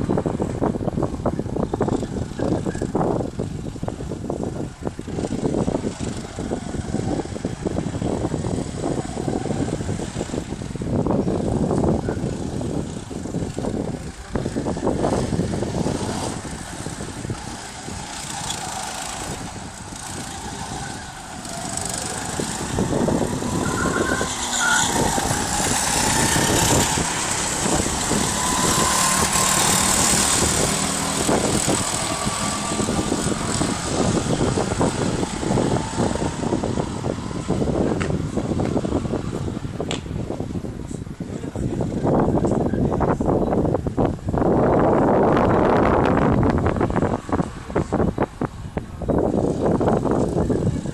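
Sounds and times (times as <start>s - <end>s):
go-kart engines: 0.0s - 50.9s.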